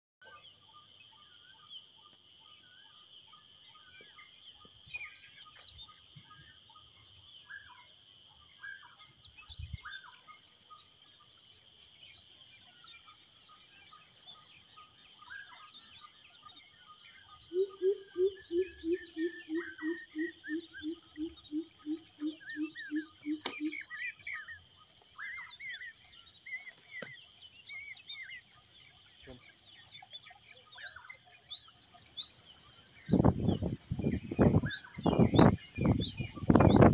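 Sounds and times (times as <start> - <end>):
birds chirping and whistling: 0.2 - 7.9, 8.6 - 36.9
insects droning: 0.2 - 36.9.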